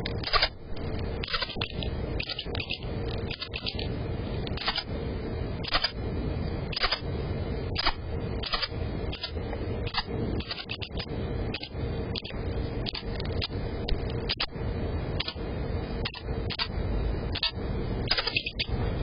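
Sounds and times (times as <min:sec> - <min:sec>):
microphone hum and hiss: 0:00.0 - 0:19.0.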